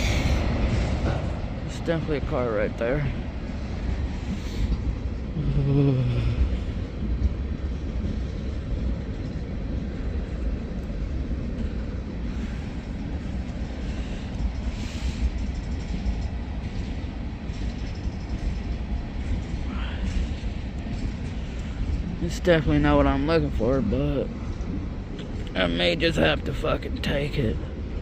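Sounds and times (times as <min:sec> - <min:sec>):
freight train rumbling on rails: 0:00.0 - 0:28.0.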